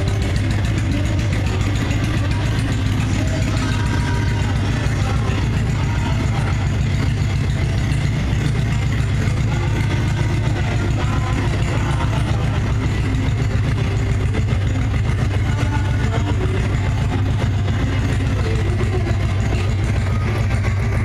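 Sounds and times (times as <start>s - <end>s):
motorcycle engine humming: 0.0s - 21.0s.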